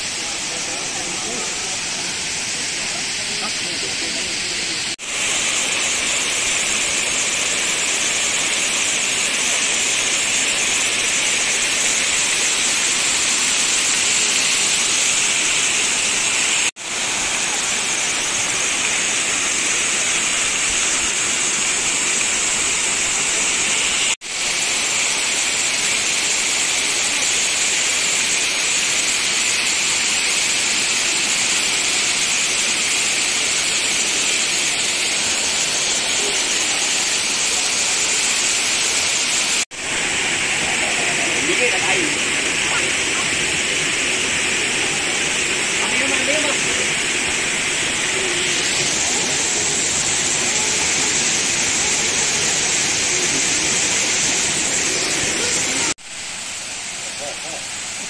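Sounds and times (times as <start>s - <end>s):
waterfall rushing over stones: 0.0s - 58.0s.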